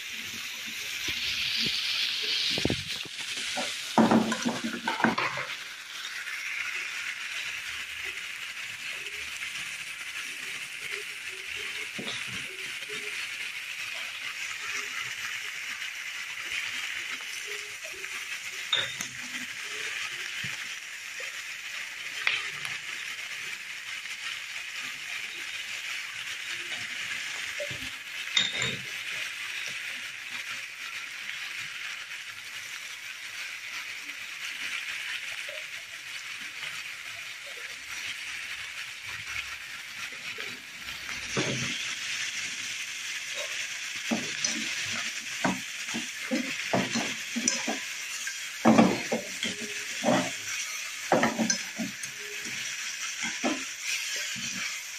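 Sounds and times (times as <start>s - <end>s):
food sizzling in a frying pan: 0.0s - 54.9s.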